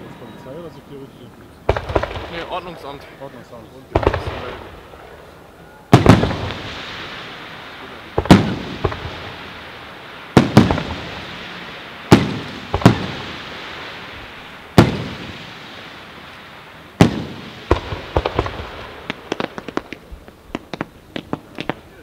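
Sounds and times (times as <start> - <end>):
firework crackle: 1.4 - 22.0
firework shells bursting: 1.6 - 2.8, 3.9 - 22.0.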